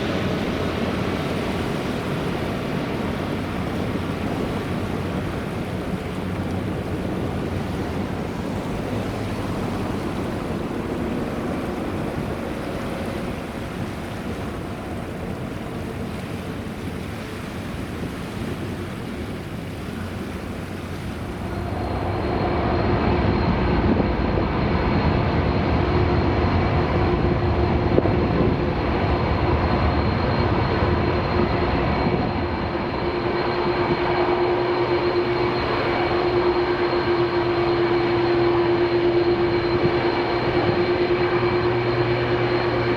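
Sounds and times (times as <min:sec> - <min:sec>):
faint high whine: 0:00.0 - 0:42.9
jet airliner engine rushing: 0:00.0 - 0:42.9.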